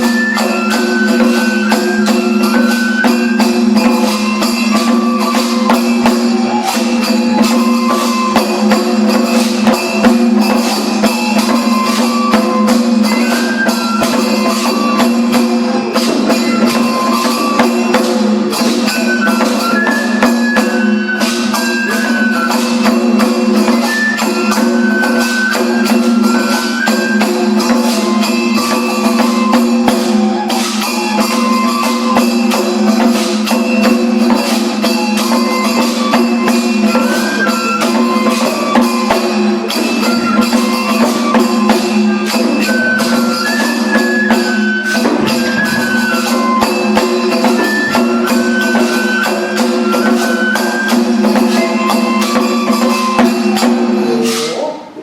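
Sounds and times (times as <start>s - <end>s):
bamboo flute melody: 0.0s - 54.7s
hand cymbals clashing: 0.0s - 55.0s
taiko drumming: 0.0s - 55.0s.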